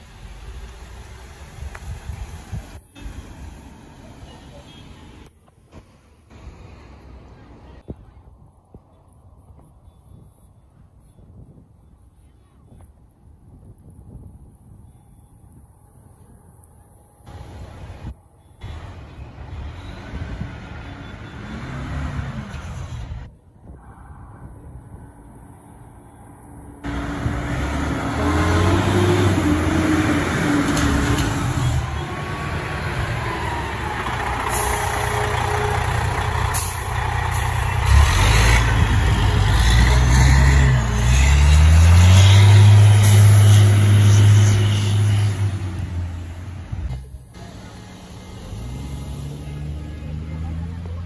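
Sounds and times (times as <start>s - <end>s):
fire engine diesel engine: 0.0s - 12.9s, 13.8s - 51.0s.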